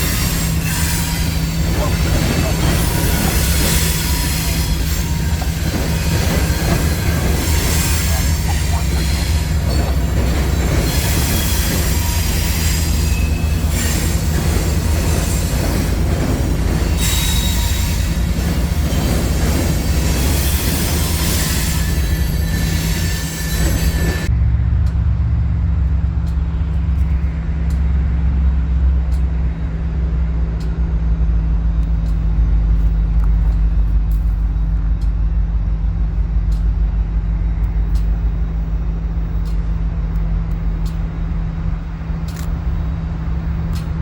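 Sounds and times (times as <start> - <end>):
diesel locomotive engine rumble: 0.0 - 44.0
train wheels on rails: 0.0 - 44.0.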